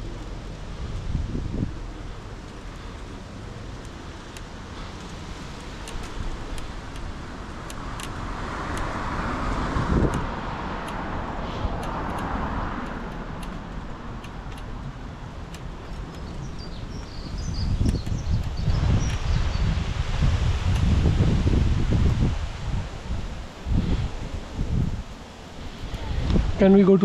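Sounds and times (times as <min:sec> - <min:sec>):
road traffic passing: 0:00.0 - 0:27.0
wind rumble on microphone: 0:00.0 - 0:27.0.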